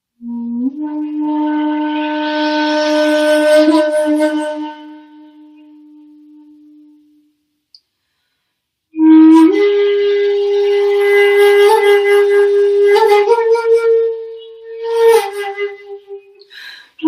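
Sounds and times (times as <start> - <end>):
end-blown bamboo flute solo: 0.2 - 7.1, 9.0 - 16.5.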